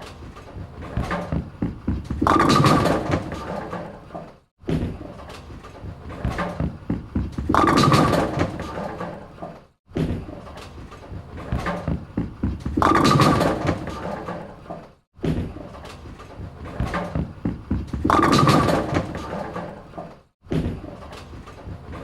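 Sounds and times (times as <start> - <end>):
bowling ball rolling: 0.5 - 10.4, 11.1 - 21.0.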